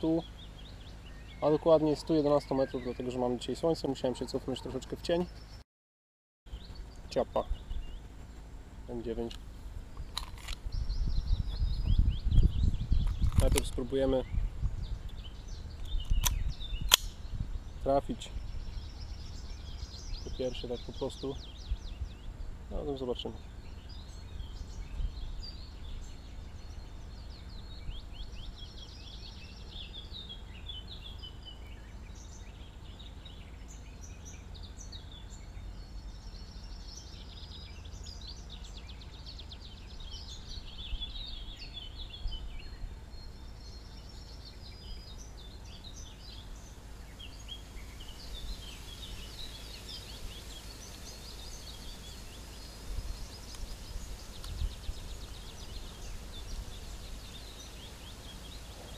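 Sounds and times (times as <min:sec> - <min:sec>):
low rumble of wind: 0:00.0 - 0:05.6, 0:06.5 - 0:58.9
songbirds chirping: 0:00.0 - 0:05.6, 0:06.5 - 0:58.9.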